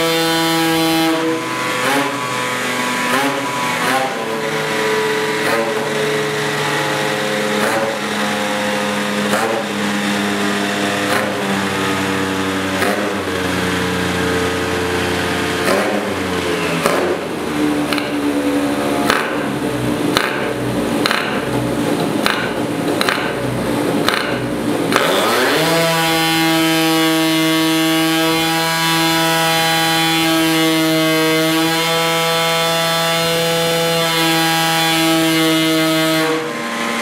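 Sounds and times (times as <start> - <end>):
two-stroke scooter engine revving: 0.0 - 37.0.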